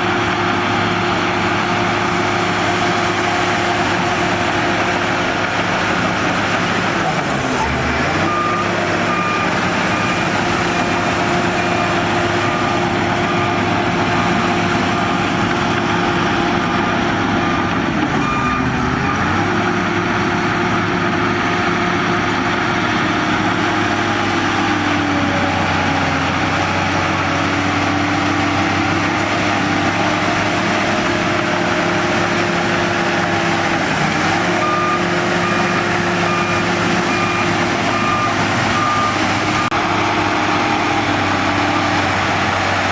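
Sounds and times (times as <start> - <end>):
bulldozer diesel engine: 0.0 - 42.9
reversing alarm beeping: 3.2 - 42.1.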